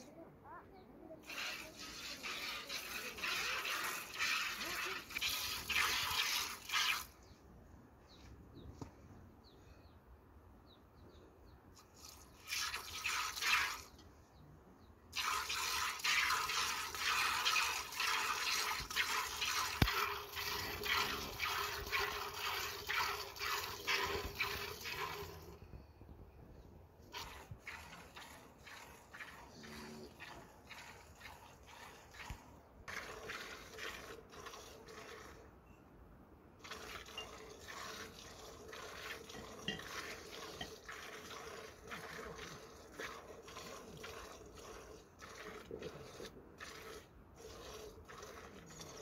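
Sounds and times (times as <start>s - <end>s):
milk squirting into bucket: 1.2s - 7.3s, 11.8s - 14.1s, 15.1s - 25.6s, 27.0s - 35.5s, 36.6s - 49.0s.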